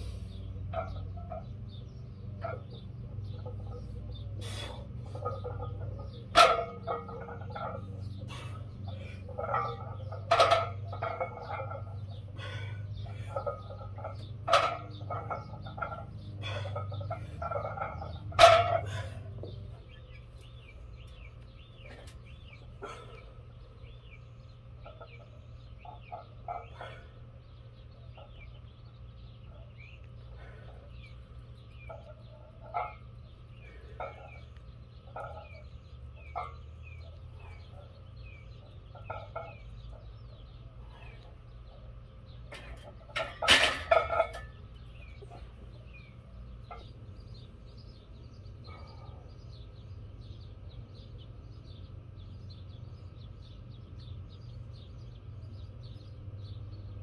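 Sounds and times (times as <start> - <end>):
chickens clucking: 0.0 - 51.8
low outdoor hum: 0.0 - 57.0
small birds chirping: 0.0 - 57.0.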